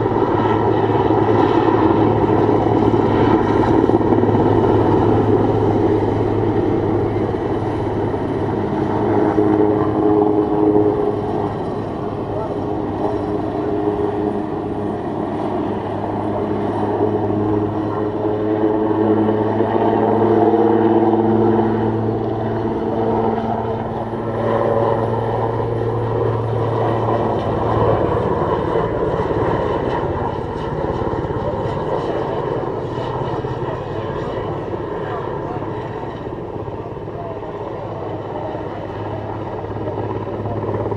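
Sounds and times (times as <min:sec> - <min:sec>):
helicopter rotor and turbine drone: 0:00.0 - 0:40.9.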